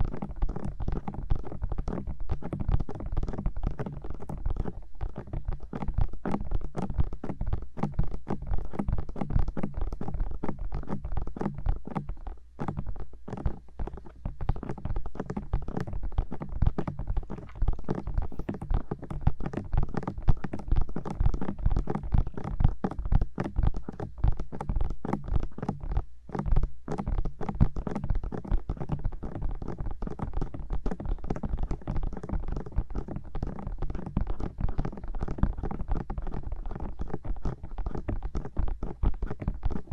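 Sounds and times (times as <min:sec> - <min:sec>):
fingertips tapping on microphone: 0:00.0 - 0:39.9.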